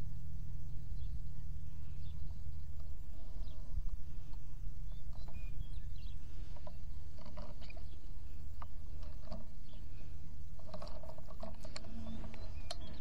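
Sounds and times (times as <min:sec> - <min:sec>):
wind rumble on microphone: 0:00.0 - 0:13.0
handling clicks and rustles: 0:02.0 - 0:13.0.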